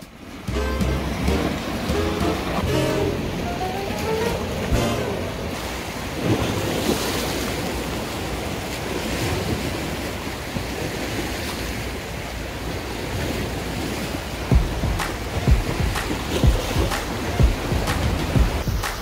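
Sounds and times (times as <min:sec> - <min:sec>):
waves breaking against rocks: 0:03.4 - 0:19.0.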